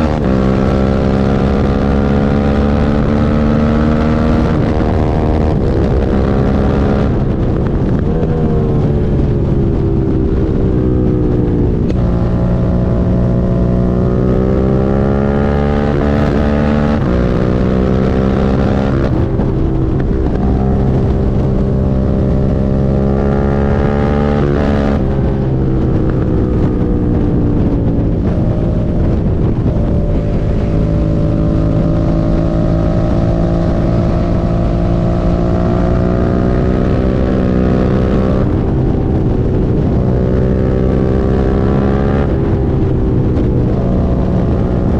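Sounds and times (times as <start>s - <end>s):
motorcycle engine revving: 0.0s - 44.9s
wind noise on microphone: 0.0s - 44.9s.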